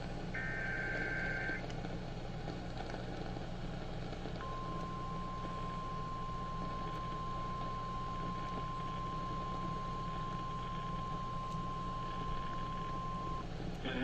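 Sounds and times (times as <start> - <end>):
radio hiss and hum: 0.0 - 2.2, 4.0 - 14.0.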